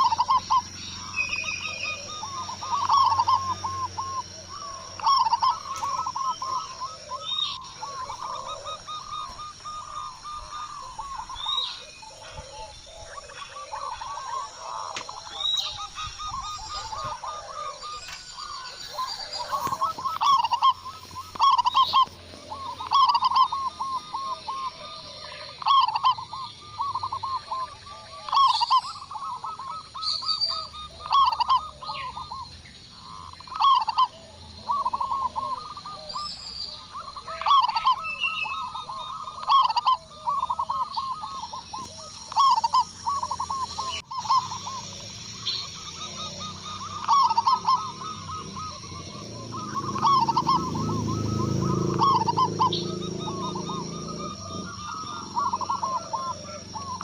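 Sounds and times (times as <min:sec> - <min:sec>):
doves cooing: 0:00.0 - 0:57.0
higher bird chirps: 0:00.0 - 0:57.0.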